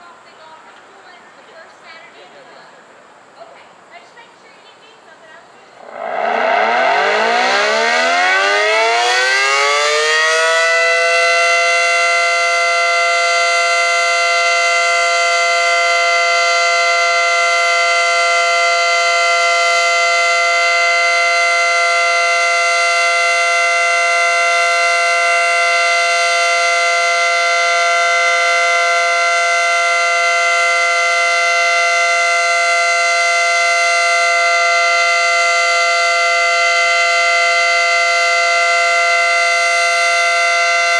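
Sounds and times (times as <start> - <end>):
rotating warning siren: 5.6 - 40.9.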